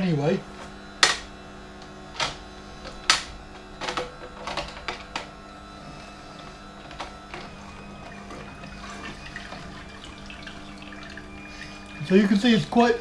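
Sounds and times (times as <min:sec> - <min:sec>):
juicer motor hum: 0:00.0 - 0:13.0.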